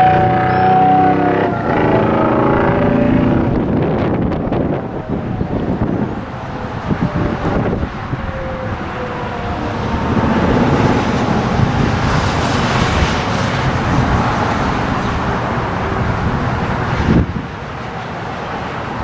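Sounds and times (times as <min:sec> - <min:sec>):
vehicles going by: 0:00.0 - 0:19.0.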